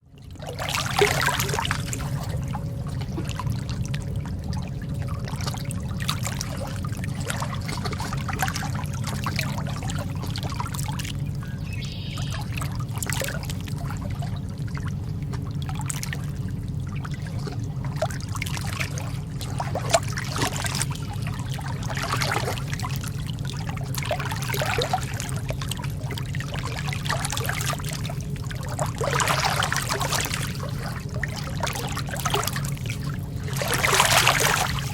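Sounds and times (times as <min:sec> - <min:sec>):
low rumble: 0:00.1 - 0:34.9
water lapping: 0:00.1 - 0:34.9
small splashes: 0:00.3 - 0:34.9.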